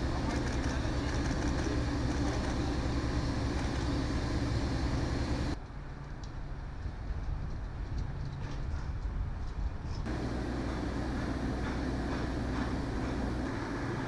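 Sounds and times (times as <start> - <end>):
low mechanical hum: 0.0 - 14.0
outdoor noise: 0.0 - 14.0.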